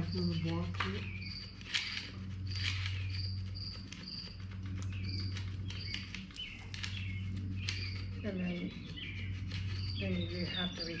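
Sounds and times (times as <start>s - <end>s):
birds chirping: 0.0s - 11.0s
insects chirping: 0.0s - 11.0s
steady low hum: 0.0s - 11.0s.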